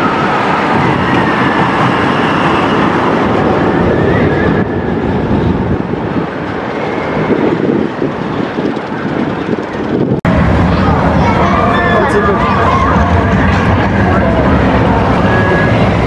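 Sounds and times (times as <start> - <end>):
roller coaster train running: 0.0 - 16.0.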